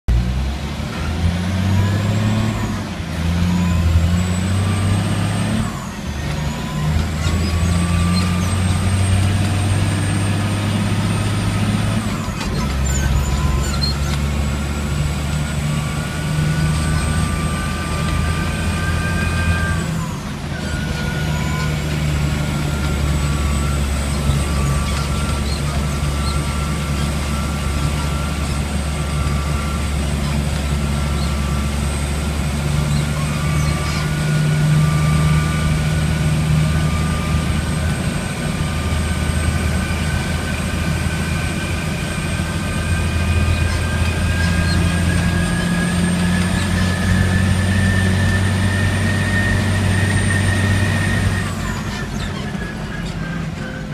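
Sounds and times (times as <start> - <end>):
diesel engine pulling: 0.0 - 53.9.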